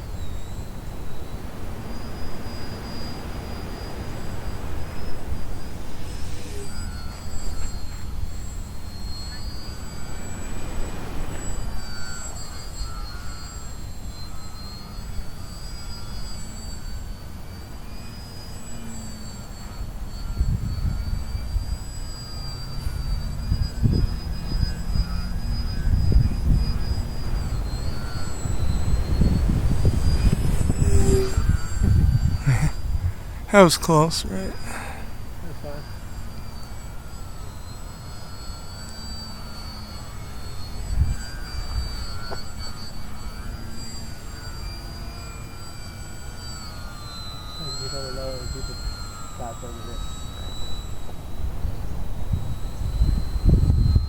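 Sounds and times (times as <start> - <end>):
wind rumble on microphone: 0.0 - 33.5, 34.3 - 54.0
electric motor propeller whine: 0.0 - 54.0.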